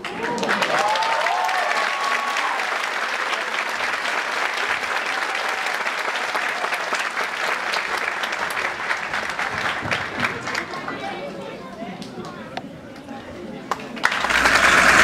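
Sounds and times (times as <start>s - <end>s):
audience applauding: 0.0s - 11.1s, 13.7s - 15.0s.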